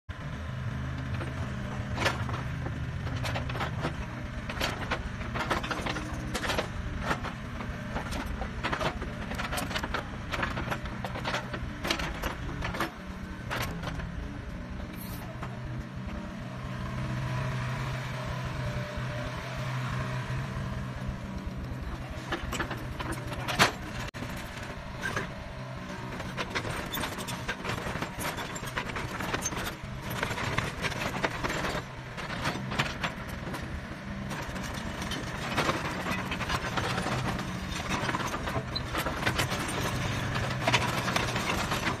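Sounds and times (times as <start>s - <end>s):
excavator diesel engine running: 0.1s - 42.0s
metal clanks and knocks: 1.0s - 14.2s, 21.4s - 42.0s.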